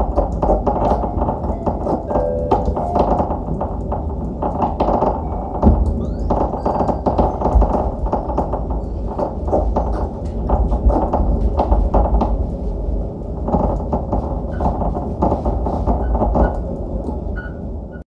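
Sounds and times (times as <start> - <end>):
irregular crackling and clicking: 0.0 - 17.4
heavy low rumble: 0.0 - 18.0.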